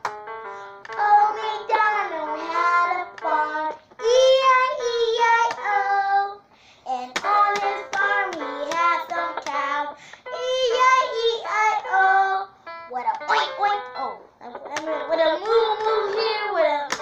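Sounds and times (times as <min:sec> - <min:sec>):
girl singing: 0:00.8 - 0:17.0.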